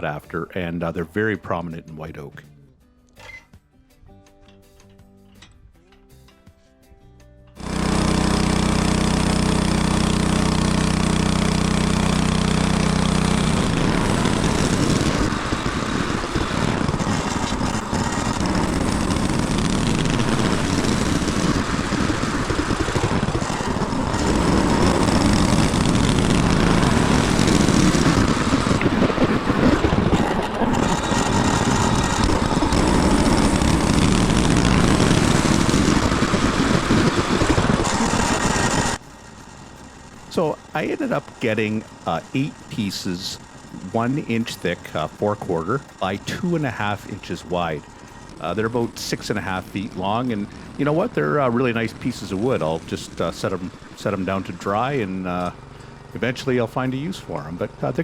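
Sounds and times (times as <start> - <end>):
gas engine running: 7.5 - 58.0
band blade cutting log: 7.6 - 39.0, 40.2 - 58.0.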